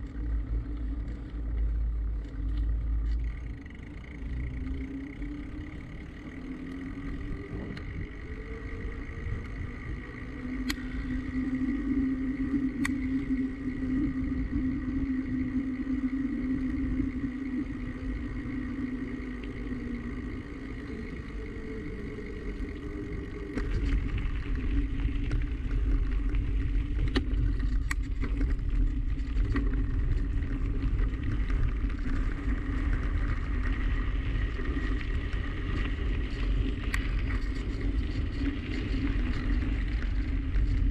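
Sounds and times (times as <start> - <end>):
bicycle riding hum: 0.0 - 40.9
wind rumbling on microphone: 0.0 - 40.9.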